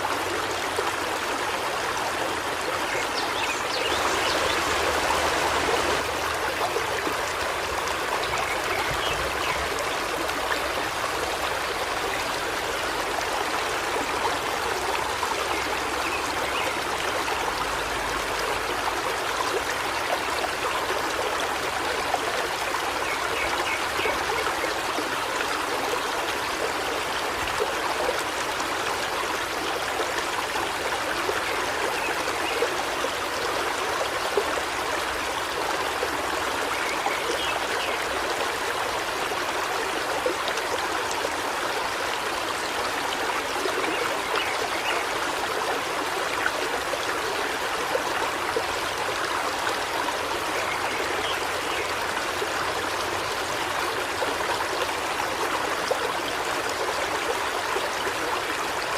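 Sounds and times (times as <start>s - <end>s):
river flowing: 0.0s - 58.9s.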